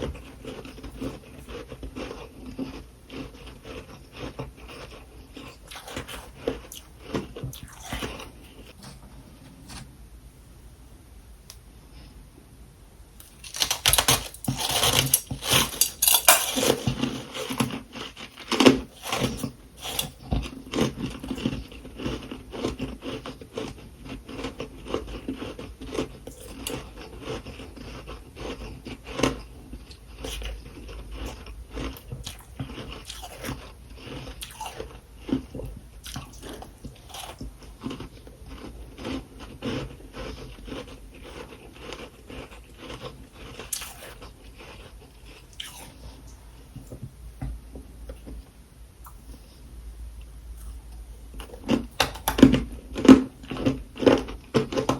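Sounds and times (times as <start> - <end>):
person chewing crunchy frost: 0.0 - 8.9, 13.2 - 47.0, 50.2 - 54.9.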